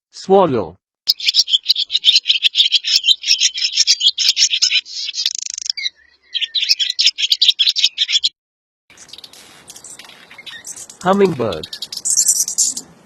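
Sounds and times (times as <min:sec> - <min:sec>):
swallow twittering: 0:01.1 - 0:08.3, 0:08.9 - 0:12.9.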